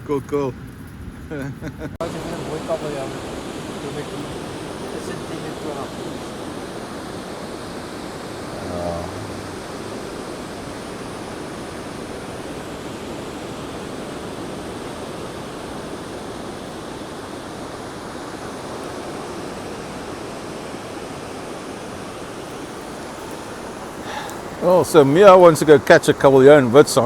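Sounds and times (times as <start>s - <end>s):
ocean surf breaking: 2.0s - 27.0s.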